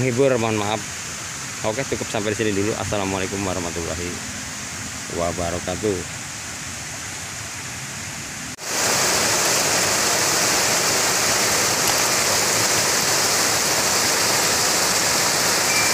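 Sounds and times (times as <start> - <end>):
water rushing over a weir: 0.0 - 15.9.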